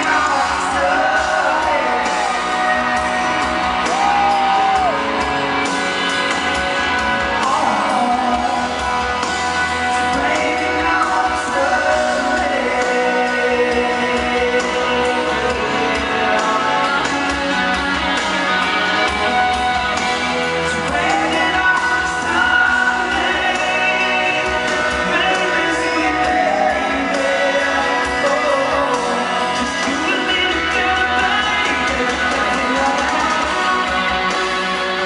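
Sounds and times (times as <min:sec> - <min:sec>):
live band playing: 0:00.0 - 0:35.0
person singing: 0:00.0 - 0:35.0.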